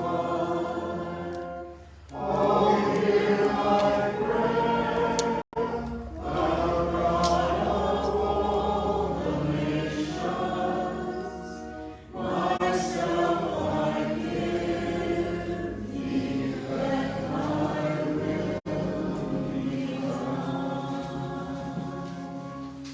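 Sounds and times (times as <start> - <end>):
choir singing: 0.0 - 22.9.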